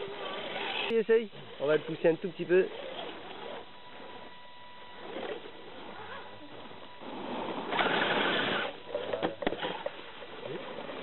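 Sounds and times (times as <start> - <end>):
toy truck motor whirring: 0.0 - 1.9, 2.6 - 4.2, 5.0 - 8.8, 9.4 - 11.0.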